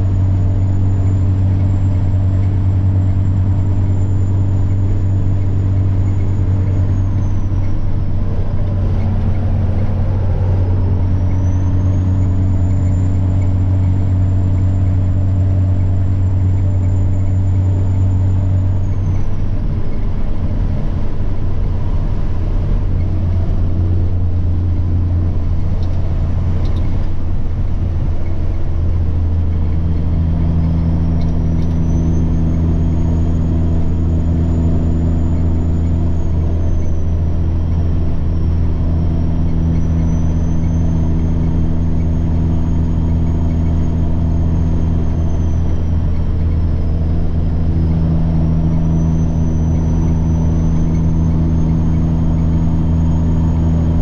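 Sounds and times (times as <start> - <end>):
diesel truck engine running: 0.0 - 54.0
high turbo whine: 0.0 - 54.0.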